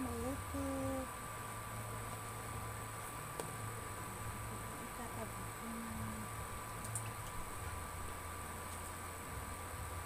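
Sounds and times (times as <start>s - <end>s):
faint high whine: 0.0s - 10.0s
induction cooktop hum and hiss: 0.0s - 10.0s.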